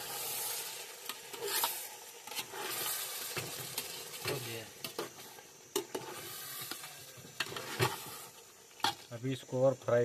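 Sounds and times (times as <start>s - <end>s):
ladle stirring in metal pot: 0.0s - 9.1s
meat sizzling in pot: 0.0s - 10.0s.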